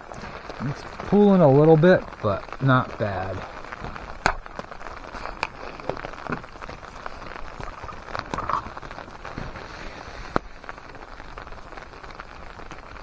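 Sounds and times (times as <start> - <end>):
rain pattering on a tarp: 0.0 - 13.0.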